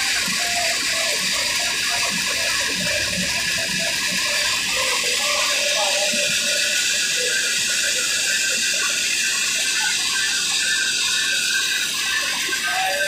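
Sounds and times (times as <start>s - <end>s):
flour mill grinding hiss: 0.0s - 13.0s.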